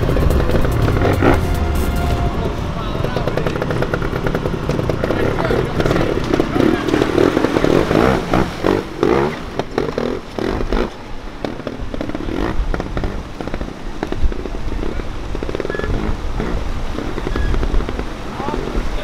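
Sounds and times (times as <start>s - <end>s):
motorcycle engine revving and popping: 0.0s - 19.0s.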